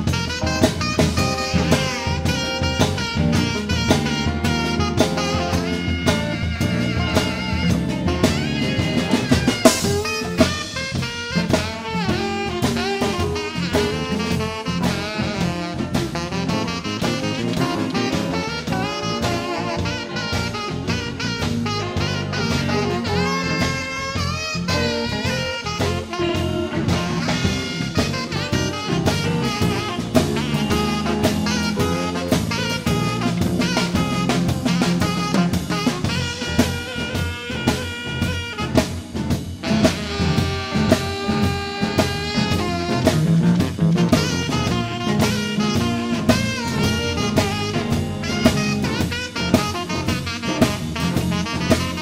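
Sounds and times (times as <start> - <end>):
drum kit beat: 0.0 - 52.0
live blues band: 0.0 - 52.0
saxophone solo: 0.0 - 52.0.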